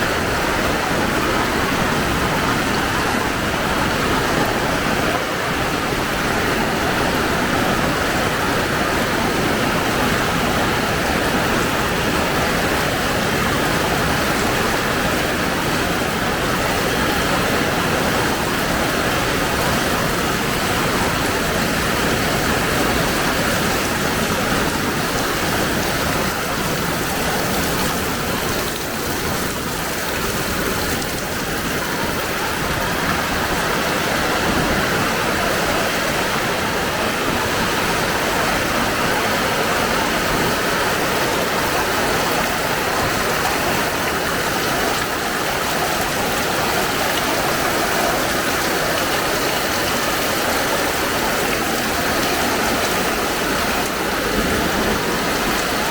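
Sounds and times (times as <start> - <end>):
heavy rain hiss: 0.0 - 55.9
water running and splashing: 0.1 - 55.9.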